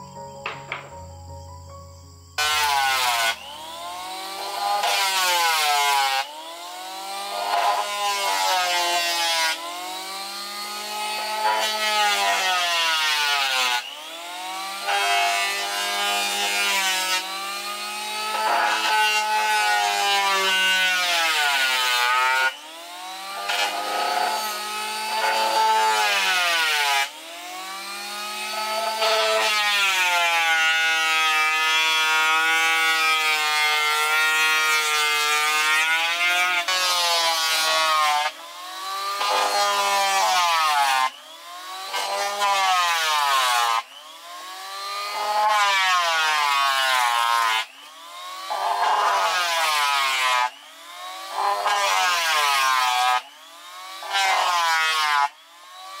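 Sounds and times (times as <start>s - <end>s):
electric planer on wood: 0.4s - 1.1s, 2.1s - 56.0s.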